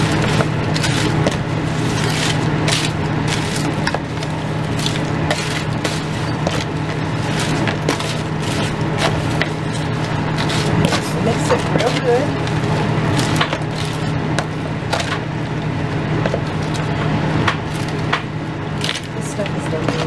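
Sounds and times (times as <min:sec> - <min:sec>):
salad servers scraping container: 0:00.0 - 0:15.3, 0:18.8 - 0:20.0
tortilla chips crunching: 0:00.0 - 0:19.2.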